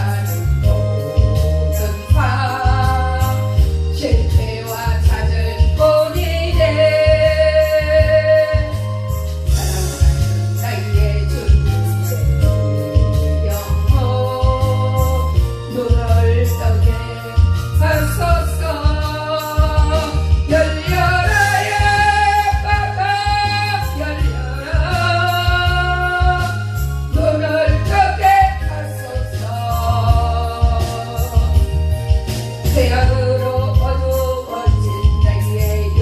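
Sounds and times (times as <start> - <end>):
accompaniment with heavy bass: 0.0 - 36.0
person singing gospel song: 0.0 - 36.0.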